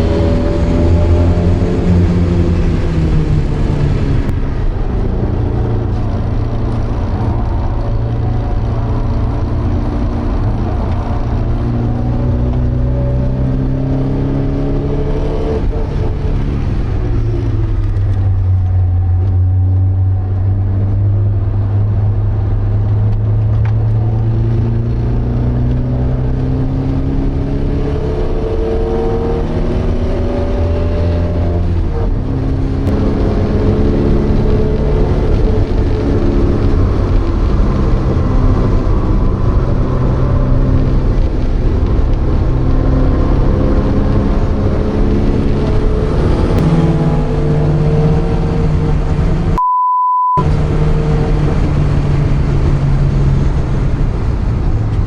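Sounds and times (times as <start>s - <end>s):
car engine revving: 0.0s - 49.6s, 50.4s - 55.0s.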